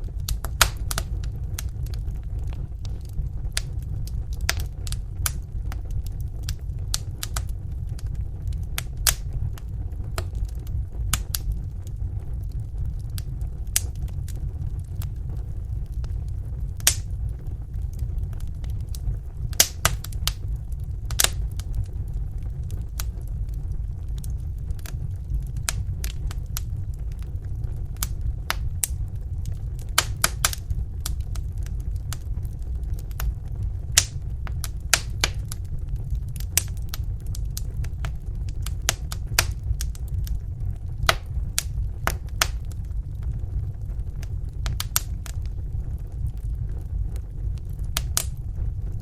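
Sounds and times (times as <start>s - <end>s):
low rumble: 0.0s - 49.0s
wood fire crackling: 0.0s - 49.0s.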